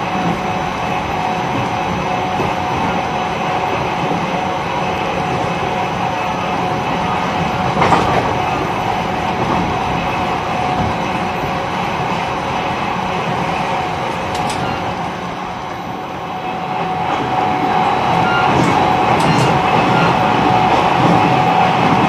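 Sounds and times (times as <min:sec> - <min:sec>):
train clatter: 0:00.0 - 0:22.0
train wheels rumbling on rails: 0:00.0 - 0:22.0.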